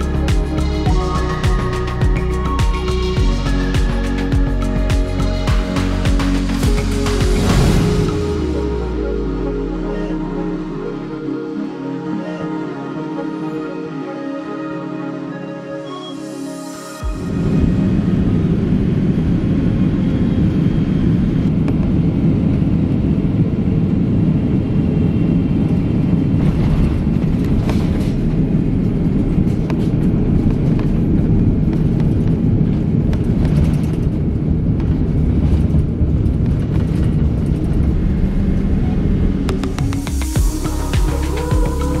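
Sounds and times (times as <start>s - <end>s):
aircraft engines and airflow rumble: 0.0s - 42.0s.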